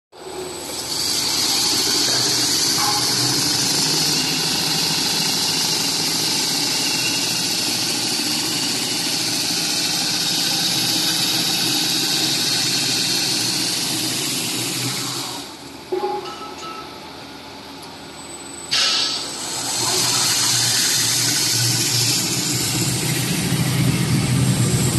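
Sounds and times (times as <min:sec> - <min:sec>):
machine hum: 0:00.2 - 0:24.9
film rewinder rollers hissing: 0:00.3 - 0:15.7, 0:18.7 - 0:24.9.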